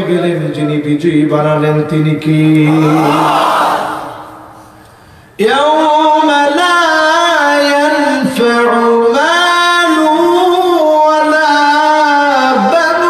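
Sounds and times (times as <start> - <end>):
man chanting into a microphone: 0.0 - 3.3, 5.4 - 13.0.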